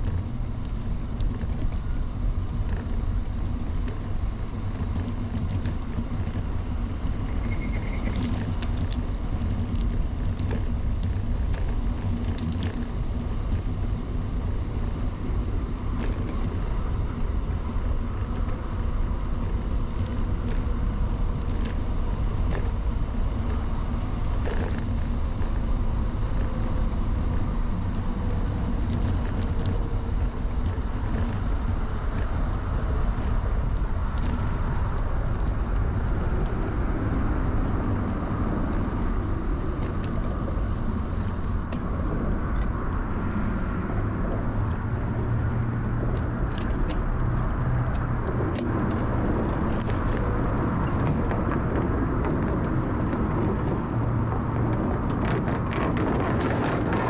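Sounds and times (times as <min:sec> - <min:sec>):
bicycle tyres rumbling: 0:00.0 - 0:57.0
light clicks and rattles: 0:00.0 - 0:57.0
wind on microphone: 0:00.0 - 0:57.0.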